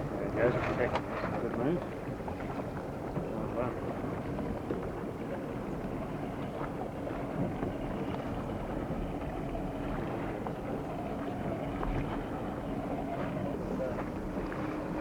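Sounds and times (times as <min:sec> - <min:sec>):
water noise from moving boat: 0:00.0 - 0:15.0.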